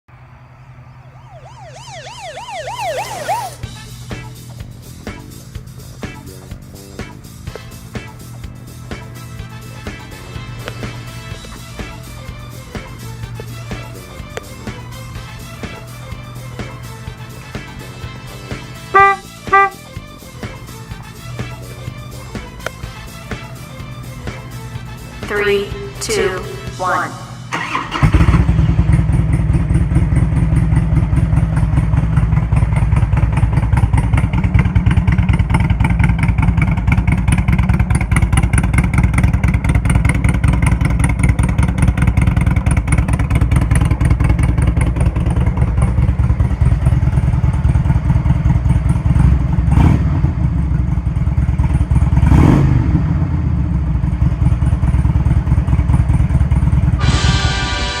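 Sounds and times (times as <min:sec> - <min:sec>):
motorcycle engine idling: 0:00.6 - 0:25.2, 0:27.5 - 0:57.1.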